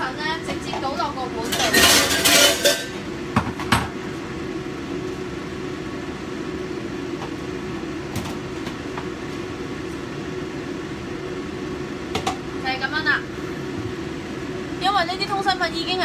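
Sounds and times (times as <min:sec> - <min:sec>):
kitchen equipment humming: 0:00.0 - 0:16.0.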